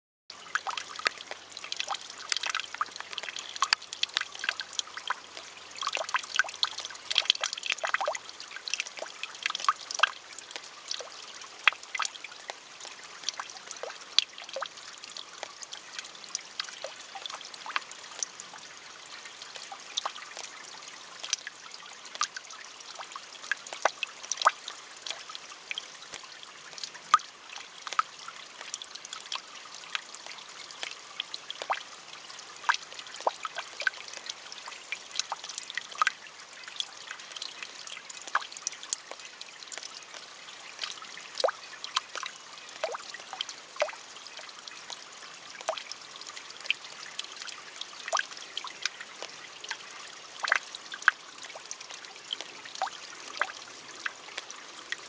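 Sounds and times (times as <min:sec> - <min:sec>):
soft rain hiss: 0:00.3 - 0:55.0.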